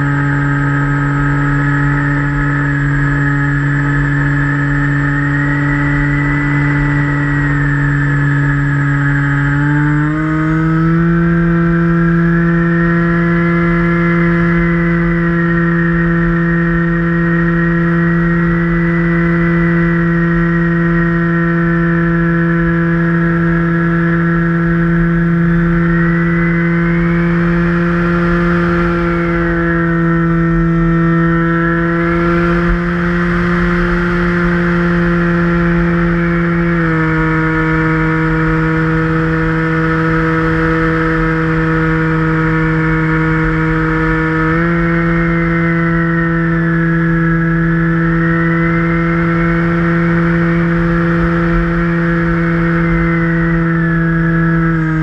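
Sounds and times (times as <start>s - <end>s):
electric motor and propeller whine: 0.0s - 55.0s.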